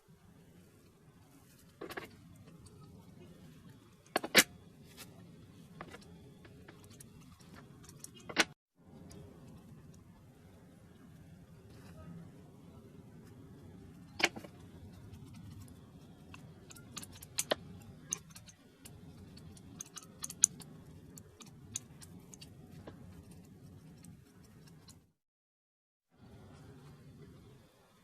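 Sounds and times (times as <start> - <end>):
low steady hum: 0.0 - 25.1.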